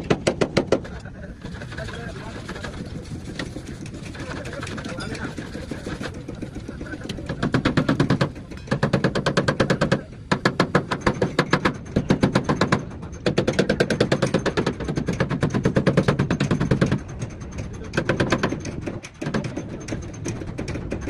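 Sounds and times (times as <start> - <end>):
air hammer on sheet metal: 0.0 - 21.0.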